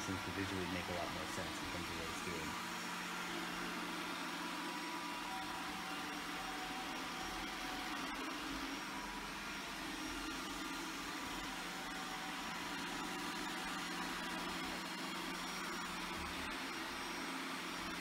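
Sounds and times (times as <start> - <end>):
robot vacuum running: 0.0 - 18.0.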